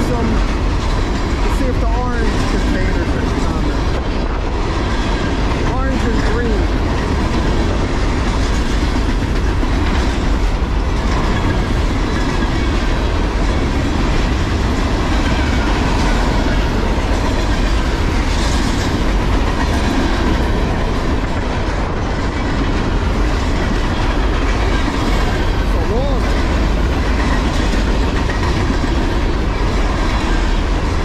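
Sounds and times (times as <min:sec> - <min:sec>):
clickety-clack over rail joints: 0:00.0 - 0:31.0
train wheels rumbling on rail: 0:00.0 - 0:31.0.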